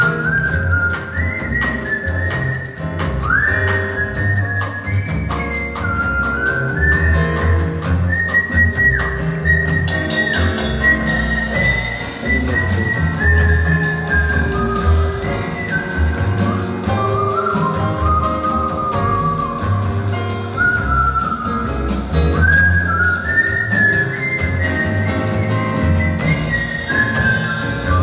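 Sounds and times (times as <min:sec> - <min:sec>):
backing music with bass and drums: 0:00.0 - 0:28.0
person whistling a melody: 0:00.0 - 0:28.0.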